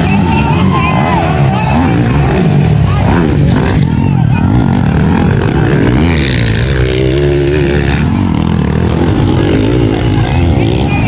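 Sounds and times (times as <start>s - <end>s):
bikes running on track: 0.0s - 11.0s
dirt bike engines revving: 0.0s - 11.0s.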